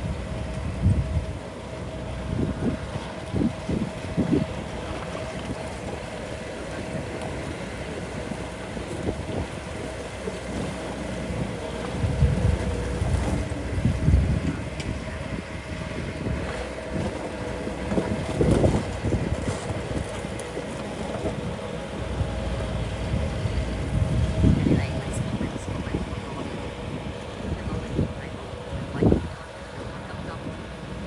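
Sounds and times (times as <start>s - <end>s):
bulldozer diesel engine rumble: 0.0s - 31.0s
steady whine: 0.0s - 31.0s.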